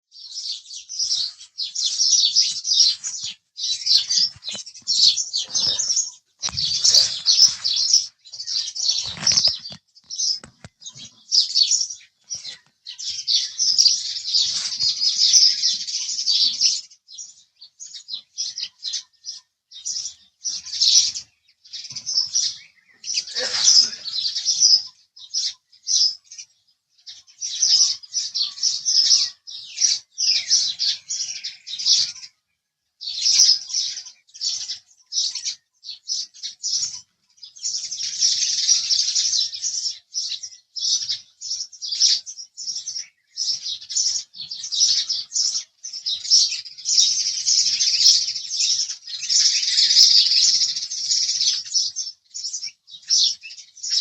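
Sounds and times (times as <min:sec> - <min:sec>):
sparrows chirping: 0:00.1 - 0:54.0.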